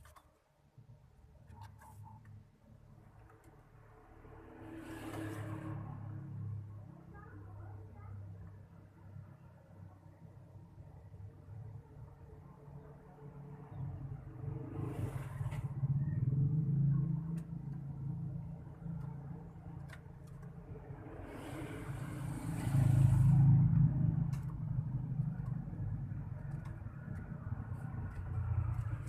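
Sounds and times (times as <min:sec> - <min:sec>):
low rumble of road traffic: 0:00.0 - 0:29.0.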